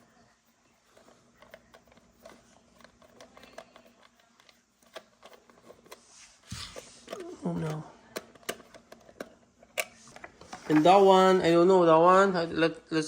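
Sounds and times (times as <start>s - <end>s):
toy packaging rustling: 0.9s - 11.7s.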